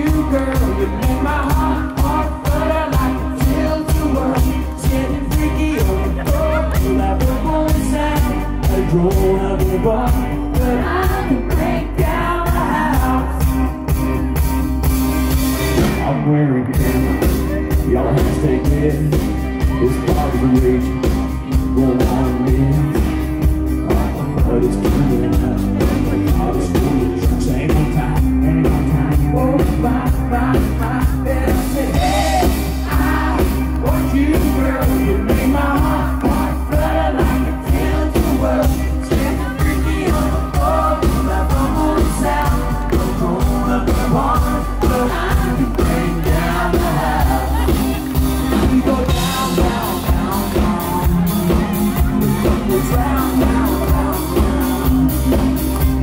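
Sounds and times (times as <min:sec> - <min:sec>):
man singing: 0:00.0 - 0:13.8, 0:15.6 - 0:56.0
steady drum beat: 0:00.0 - 0:16.2, 0:16.8 - 0:56.0
live country band music: 0:00.0 - 0:56.0.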